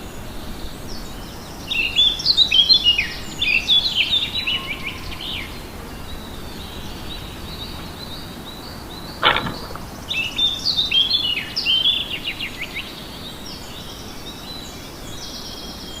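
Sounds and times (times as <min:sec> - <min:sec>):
outdoor background noise: 0:00.0 - 0:16.0
songbirds chirping and singing: 0:00.0 - 0:16.0.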